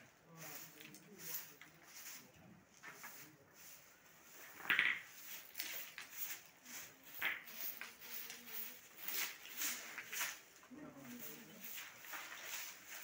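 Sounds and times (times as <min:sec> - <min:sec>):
dry twigs rustling and scraping: 0:00.4 - 0:13.0.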